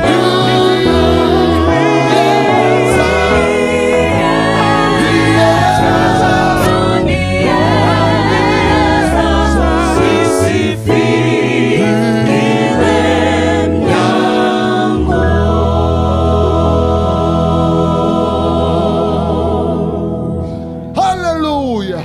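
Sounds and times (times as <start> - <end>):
gospel choir singing in harmony: 0.0 - 20.9.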